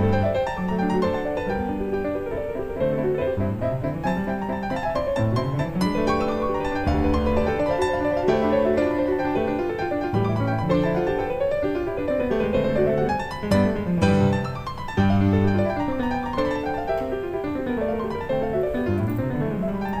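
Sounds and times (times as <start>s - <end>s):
solo piano playing runs: 0.0s - 20.0s.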